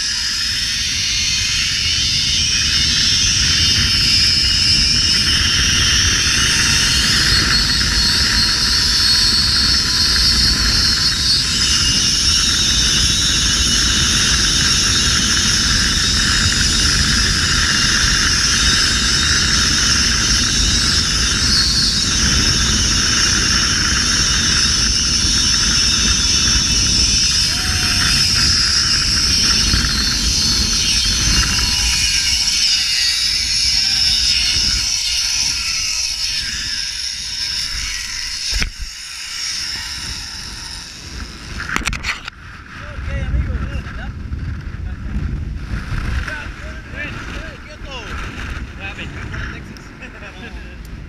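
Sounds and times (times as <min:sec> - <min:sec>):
wind rushing on microphone: 0:00.0 - 0:51.0
zip-line pulleys whining on cable: 0:00.0 - 0:51.0.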